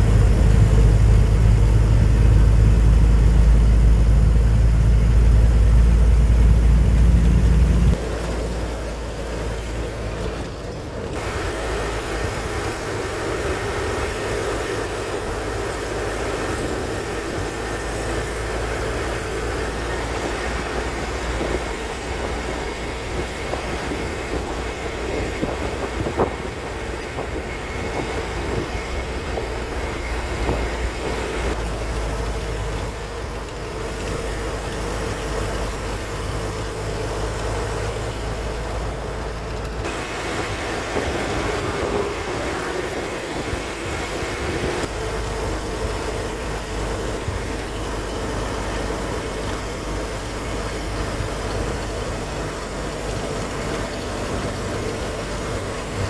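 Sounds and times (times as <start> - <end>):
road noise: 0.0 - 56.0
truck engine rumble: 0.0 - 56.0.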